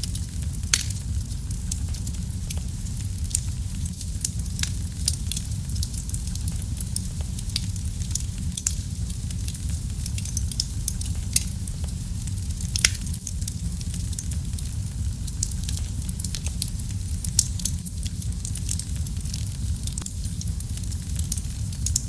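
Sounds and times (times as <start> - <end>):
wood fire crackling in fireplace: 0.0 - 22.0.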